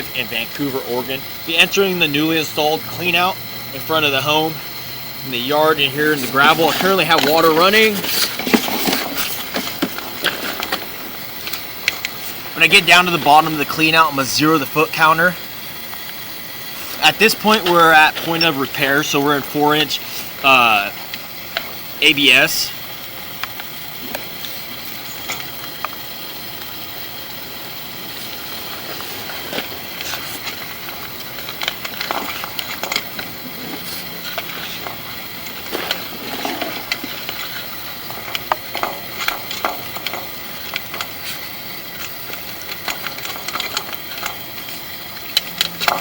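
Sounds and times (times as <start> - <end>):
water running into a pipe: 0.0 - 46.0.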